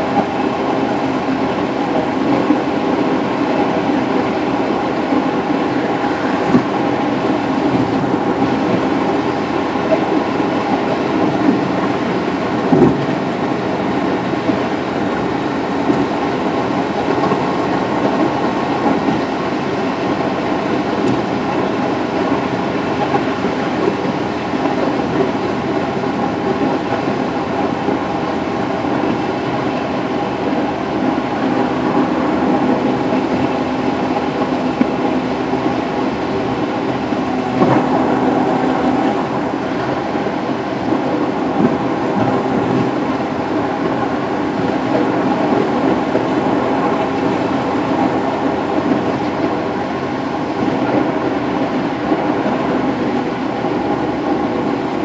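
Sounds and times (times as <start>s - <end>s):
road and tyre noise inside car: 0.0s - 55.0s.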